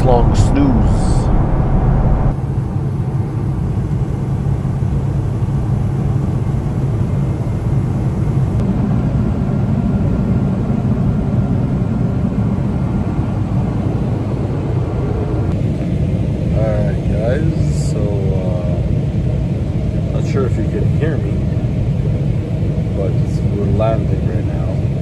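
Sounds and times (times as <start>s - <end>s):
airliner cabin rumble: 0.0s - 2.8s, 3.6s - 25.0s.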